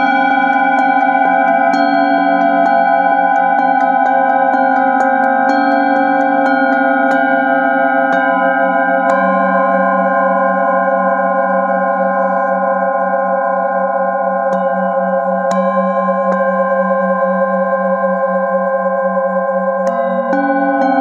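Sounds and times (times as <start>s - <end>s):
singing bowl ringing: 0.0s - 21.0s.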